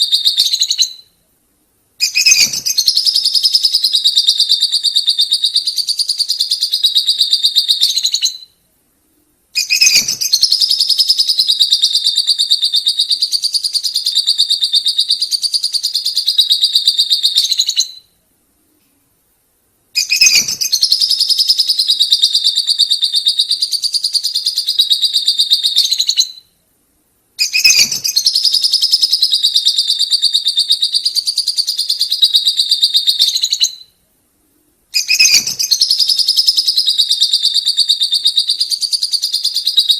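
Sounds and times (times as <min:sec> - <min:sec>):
lovebirds chattering: 0:02.0 - 0:08.5, 0:09.6 - 0:18.0, 0:20.0 - 0:26.4, 0:27.4 - 0:33.9, 0:34.9 - 0:39.9.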